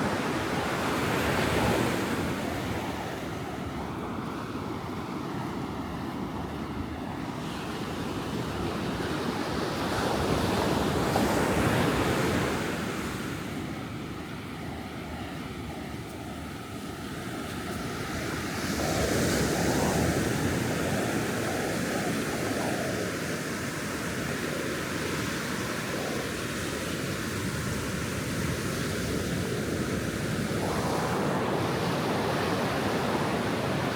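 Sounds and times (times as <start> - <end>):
wind on microphone: 0.0 - 33.9.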